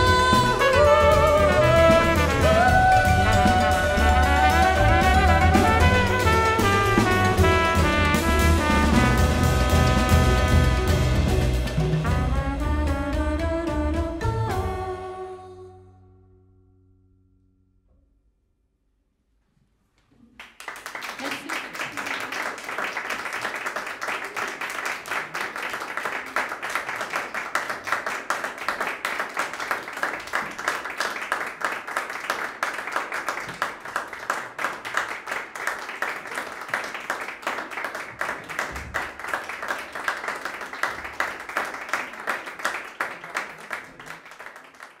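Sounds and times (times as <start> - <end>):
audience applauding: 0.0 - 11.4, 20.3 - 45.0.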